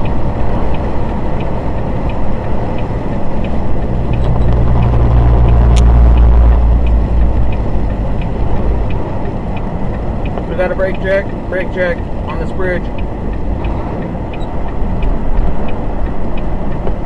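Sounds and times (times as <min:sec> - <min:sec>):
faint regular ticking: 0:00.0 - 0:17.0
truck engine and road noise: 0:00.0 - 0:17.0.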